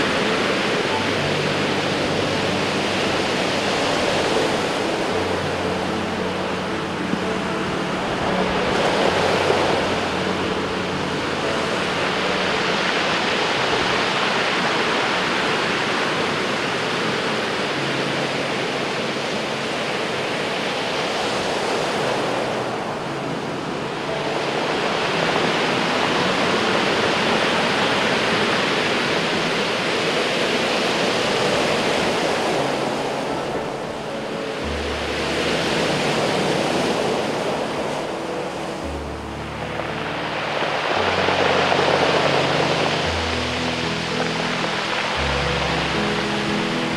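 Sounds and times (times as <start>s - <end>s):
surf breaking on pebble beach: 0.0s - 46.9s.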